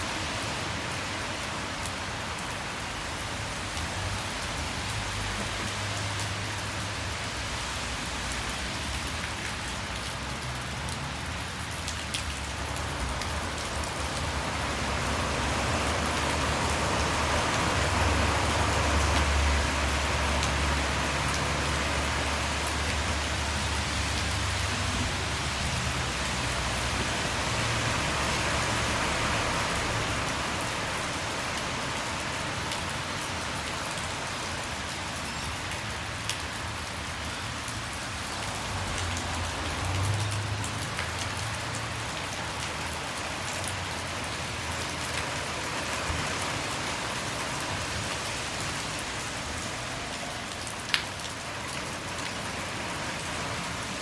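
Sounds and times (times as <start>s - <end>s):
rain on hard surfaces: 0.0s - 54.0s
passing traffic rumble: 0.1s - 54.0s.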